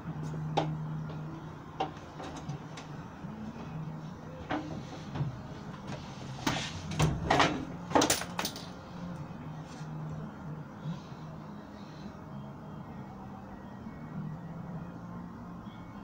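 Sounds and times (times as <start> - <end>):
steady low hum: 0.0 - 8.0, 8.6 - 16.0.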